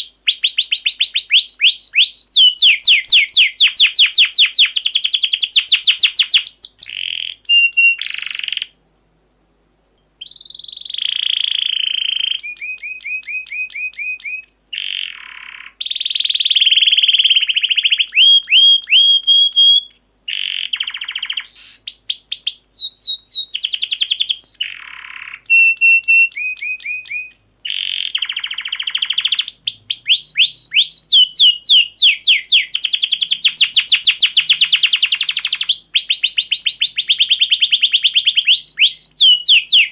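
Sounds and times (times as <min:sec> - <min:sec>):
canary singing trills and chirps: 0:00.0 - 0:08.8, 0:10.2 - 0:39.9.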